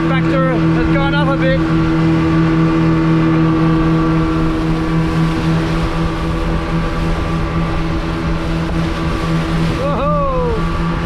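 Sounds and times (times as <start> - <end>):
motorboat engine drone: 0.0 - 11.0
water rushing past hull: 0.0 - 11.0.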